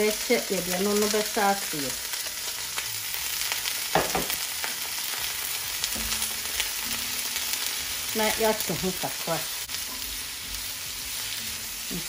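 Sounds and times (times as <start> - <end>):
stir fry sizzling in a pan: 0.0 - 12.0.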